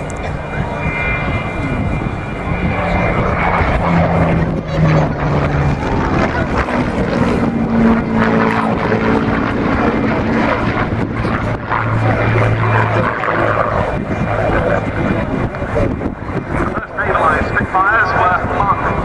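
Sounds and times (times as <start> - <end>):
aircraft flying past: 0.0 - 19.0.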